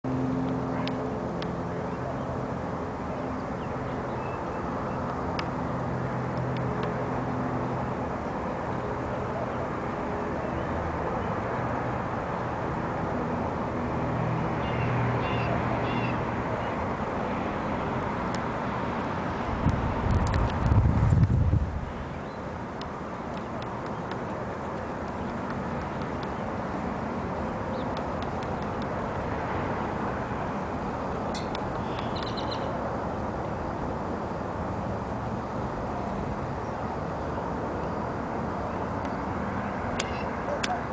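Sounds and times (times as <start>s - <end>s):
low engine hum: 0.0s - 40.9s.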